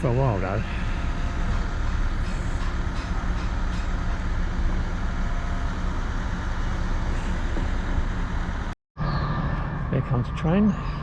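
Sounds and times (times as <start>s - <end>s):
train engine drone and rumble: 0.0s - 11.0s.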